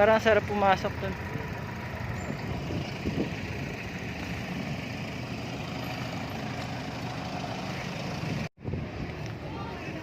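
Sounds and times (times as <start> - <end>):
bicycle riding rumble: 0.0 - 10.0.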